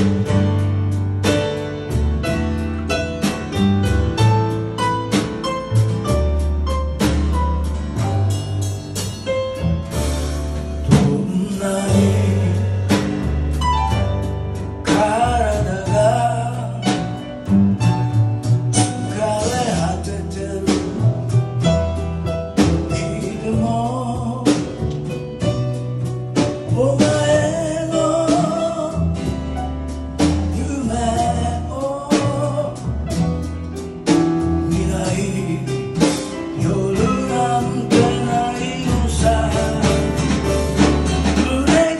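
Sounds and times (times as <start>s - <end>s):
acoustic guitar: 0.0s - 41.9s
blues band playing live: 0.0s - 41.9s
upright double bass: 0.0s - 41.9s.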